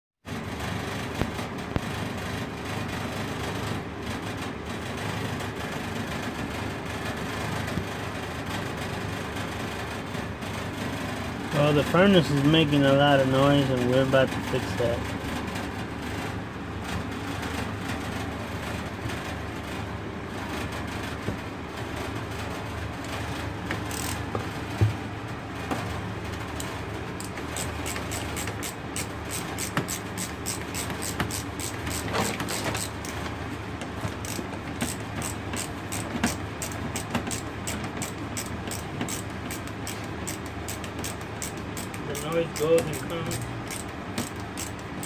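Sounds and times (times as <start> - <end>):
furnace blower hum: 0.3 - 45.0.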